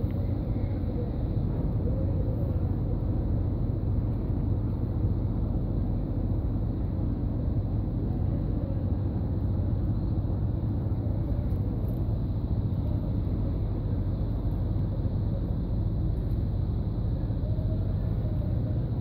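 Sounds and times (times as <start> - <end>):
outdoor low rumble: 0.0 - 19.0.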